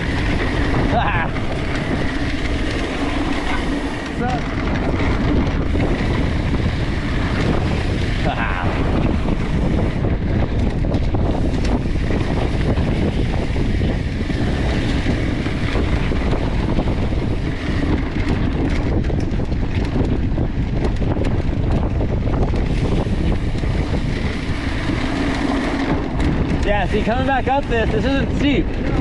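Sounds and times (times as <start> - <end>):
bike tyre noise on dirt: 0.0 - 29.0
wind on microphone: 0.0 - 29.0.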